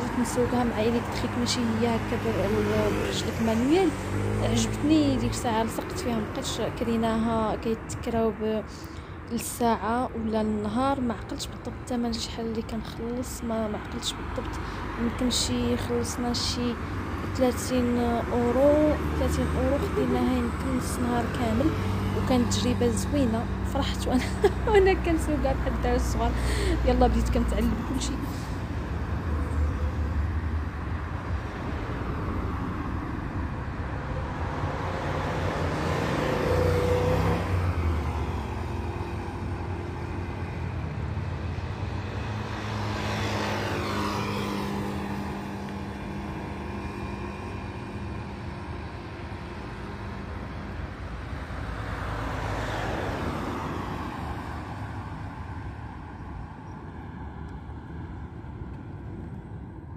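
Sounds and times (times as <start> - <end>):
cars passing by: 0.0 - 59.9
traffic hum: 0.0 - 59.9.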